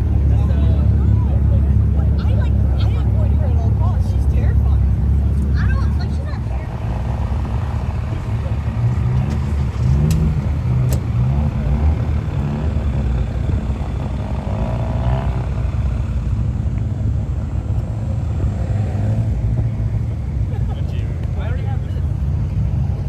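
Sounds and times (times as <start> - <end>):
car engines rumbling: 0.0 - 23.0.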